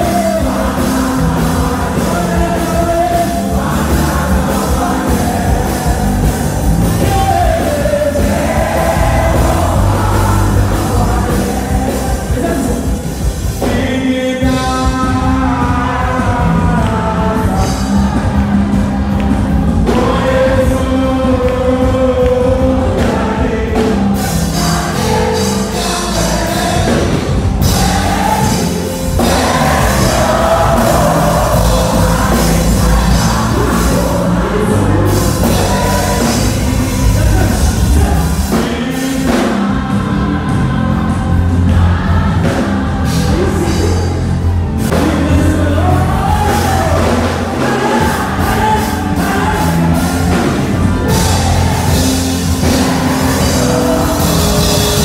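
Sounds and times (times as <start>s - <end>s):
deep bass line: 0.0s - 55.0s
gospel band through pa: 0.0s - 55.0s
person singing into microphone: 0.0s - 55.0s.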